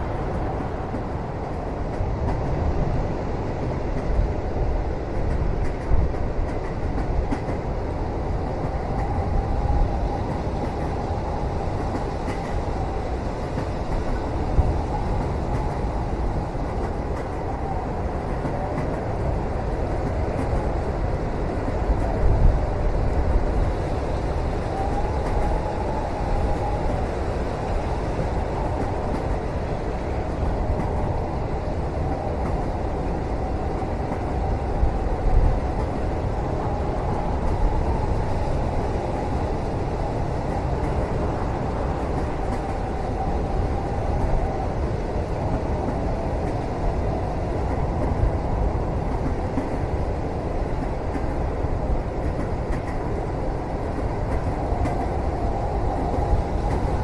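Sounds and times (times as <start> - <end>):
train rumbling inside cabin: 0.0 - 57.0.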